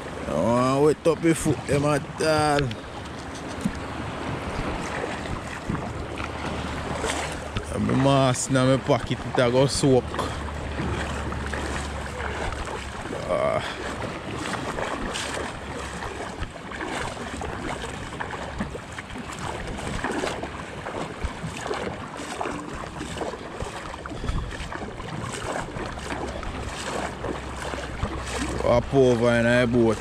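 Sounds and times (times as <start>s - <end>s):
seawater splashing around legs: 0.0s - 30.0s
wind on microphone: 1.4s - 8.0s, 9.1s - 30.0s.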